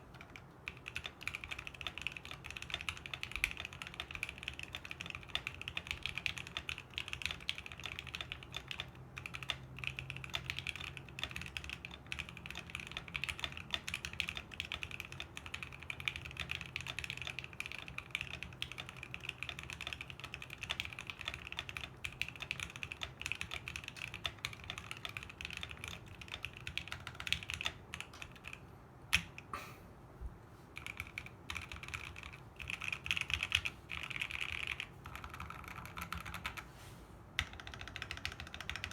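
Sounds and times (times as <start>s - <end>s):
mechanical keyboard typing: 0.0s - 29.5s, 30.8s - 36.7s, 37.4s - 38.9s.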